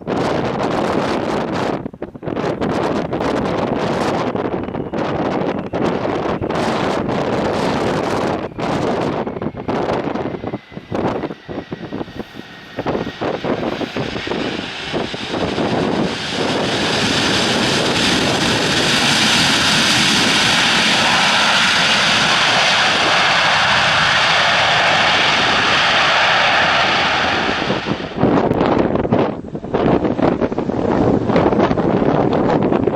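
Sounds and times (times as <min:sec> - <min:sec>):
aircraft engines passing close: 0:00.0 - 0:32.9
wind buffeting microphone: 0:00.0 - 0:32.9.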